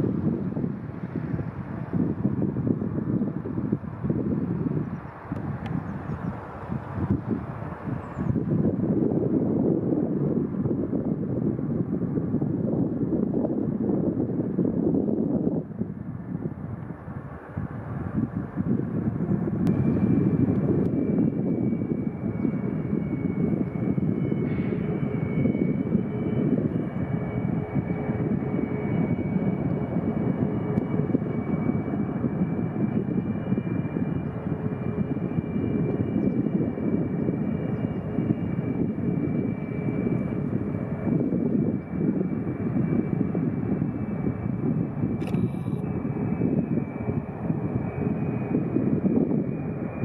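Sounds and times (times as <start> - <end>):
high steady engine whine: 0.0 - 50.0
jet engines rumbling: 0.0 - 50.0.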